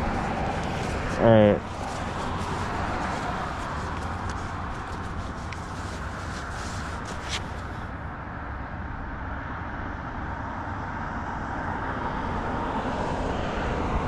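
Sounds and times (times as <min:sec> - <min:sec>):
road traffic passing: 0:00.0 - 0:14.0
wind rumble on microphone: 0:00.0 - 0:14.0.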